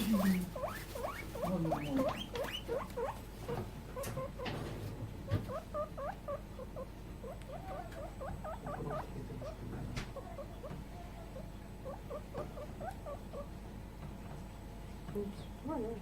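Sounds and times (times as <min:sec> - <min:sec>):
guinea pig wheeking: 0:00.0 - 0:13.6.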